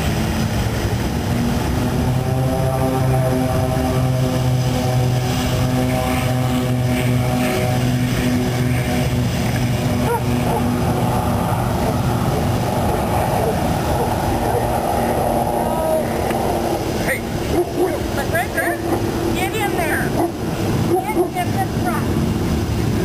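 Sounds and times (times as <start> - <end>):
aircraft engines droning: 0.0 - 23.0.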